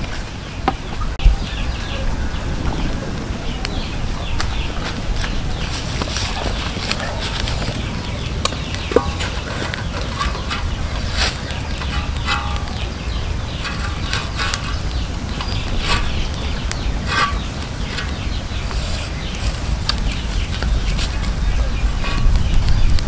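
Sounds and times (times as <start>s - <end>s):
low rumble: 1.2s - 23.0s
food deep-frying in hot oil: 3.6s - 23.0s.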